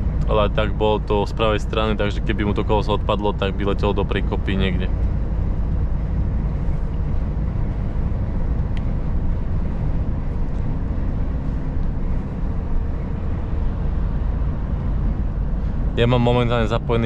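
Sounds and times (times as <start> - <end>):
road noise: 0.0 - 17.0
truck diesel engine drone: 0.0 - 17.0.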